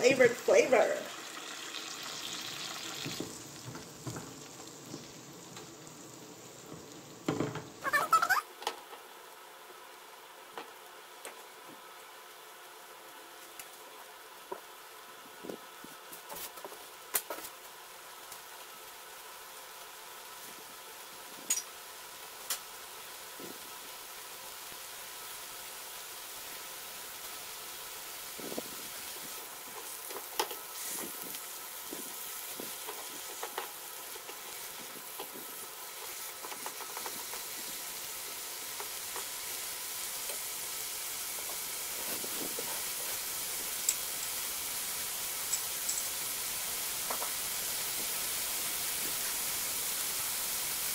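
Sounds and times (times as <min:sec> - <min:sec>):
carrots sizzling in frying pan: 0:00.0 - 0:50.9.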